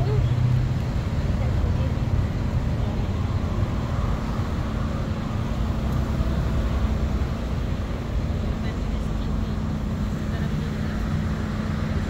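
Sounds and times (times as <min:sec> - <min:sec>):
bus and traffic rumble: 0:00.0 - 0:12.0
faint engine hum: 0:00.0 - 0:12.0.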